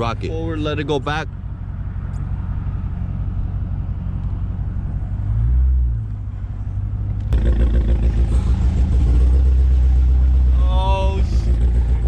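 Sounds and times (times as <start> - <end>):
car engine revving: 1.4 - 12.0.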